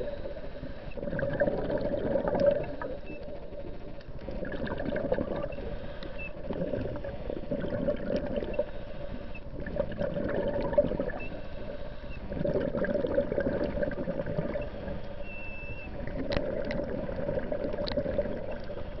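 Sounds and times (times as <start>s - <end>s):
muffled underwater water rush: 0.0s - 19.0s.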